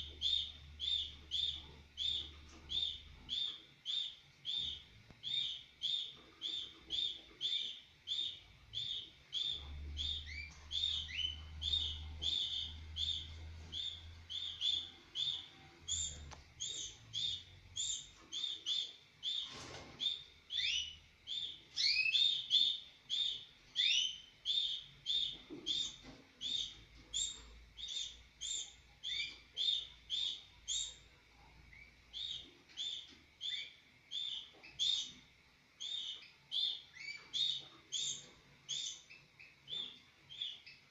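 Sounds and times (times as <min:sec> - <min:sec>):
canaries chirping: 0:00.0 - 0:40.9.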